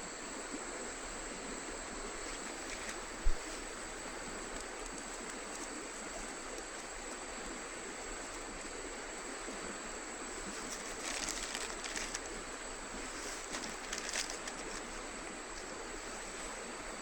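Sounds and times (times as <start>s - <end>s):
river water flowing: 1.1s - 17.0s.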